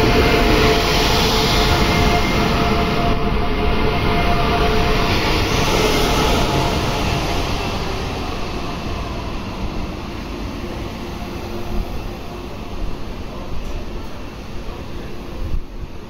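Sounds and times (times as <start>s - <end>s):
train rolling past: 0.0s - 16.0s.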